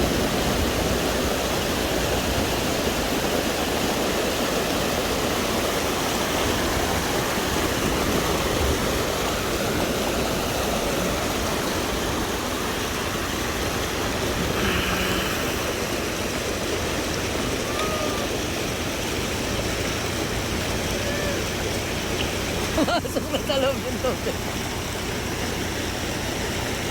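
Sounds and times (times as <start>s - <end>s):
waterfall rushing water: 0.0s - 26.9s.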